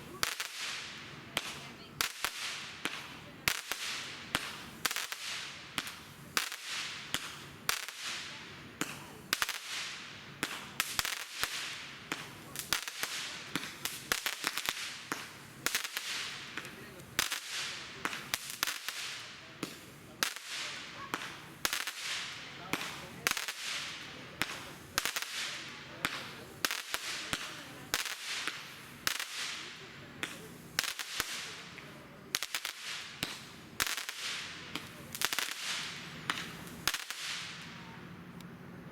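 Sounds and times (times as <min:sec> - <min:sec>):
firework cracks with crackling hiss: 0:00.0 - 0:38.4.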